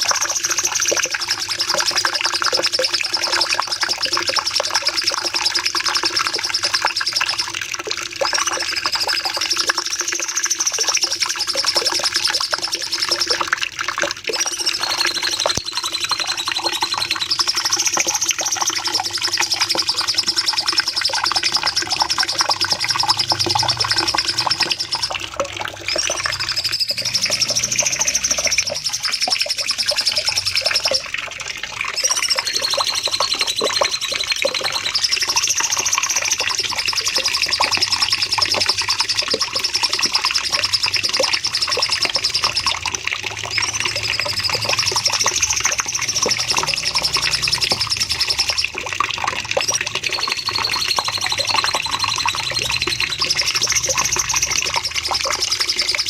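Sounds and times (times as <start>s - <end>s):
bird singing high-pitched trills: 0.0s - 31.2s, 31.9s - 56.0s.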